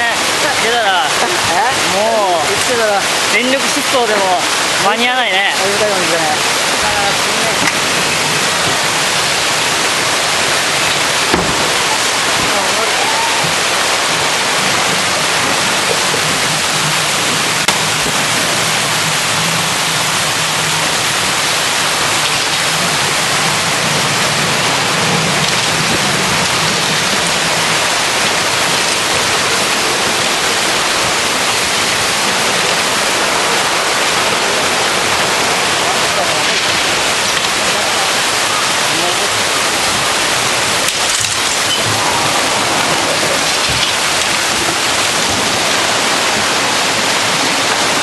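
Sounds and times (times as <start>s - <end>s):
storm wind rushing: 0.0s - 48.0s
water rushing: 0.0s - 48.0s.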